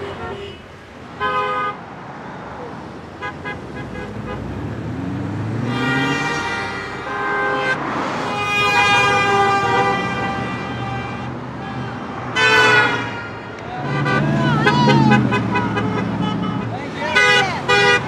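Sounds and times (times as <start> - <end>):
car horns honking: 0.0 - 2.4, 3.0 - 18.0
cars driving past: 0.0 - 18.0.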